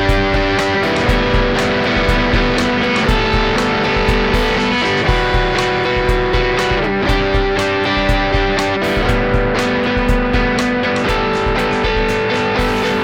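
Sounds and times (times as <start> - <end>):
electric guitar playing chords: 0.0 - 13.0
steady ticking beat: 0.0 - 13.0.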